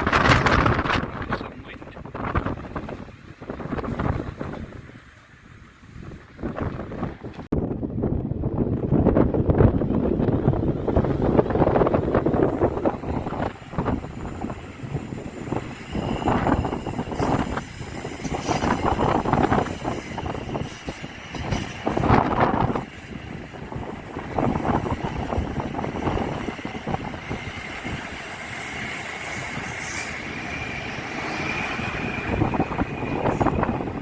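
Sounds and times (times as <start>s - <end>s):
passenger train passing: 0.0s - 34.0s
wind buffeting microphone: 0.0s - 34.0s.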